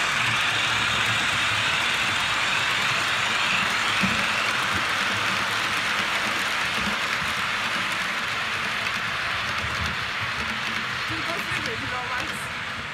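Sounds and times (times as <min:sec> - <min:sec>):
model train wheels rushing on rail: 0:00.0 - 0:12.9.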